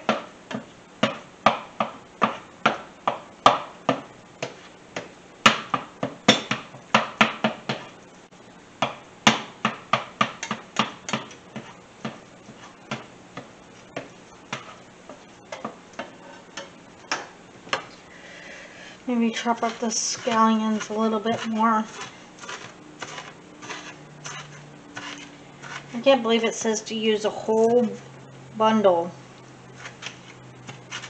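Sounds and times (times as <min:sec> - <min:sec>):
utensil tapping and scraping in skillet: 0:00.0 - 0:08.0, 0:08.8 - 0:18.0, 0:19.1 - 0:28.1, 0:29.7 - 0:31.0.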